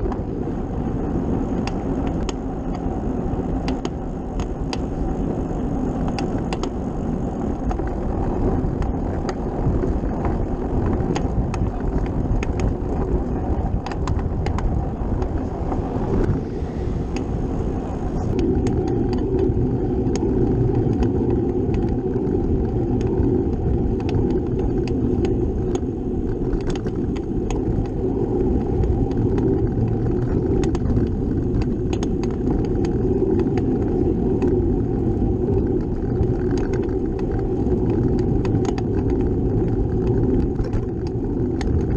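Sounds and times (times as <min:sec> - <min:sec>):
bike clicks and rattles: 0:00.0 - 0:16.4, 0:17.0 - 0:41.9
tyres rumbling on road: 0:00.0 - 0:41.9
wind on microphone: 0:00.0 - 0:41.9.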